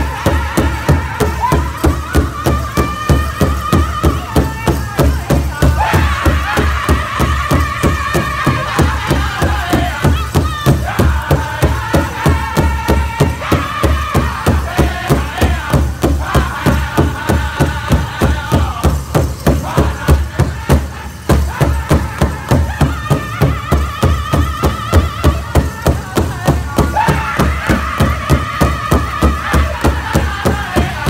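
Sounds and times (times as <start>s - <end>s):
high-pitched group singing: 0.0s - 31.0s
large bass drum beating: 0.0s - 31.0s.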